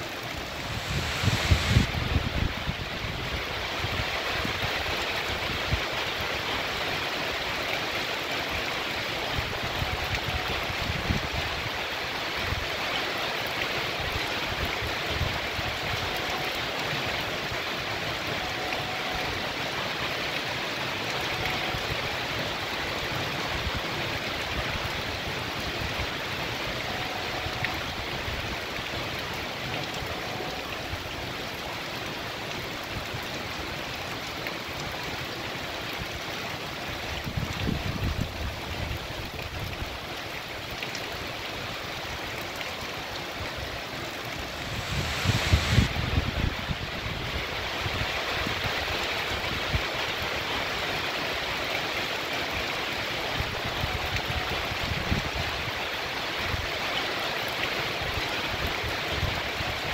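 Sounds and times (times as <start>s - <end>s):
heavy rain on street: 0.0s - 59.9s.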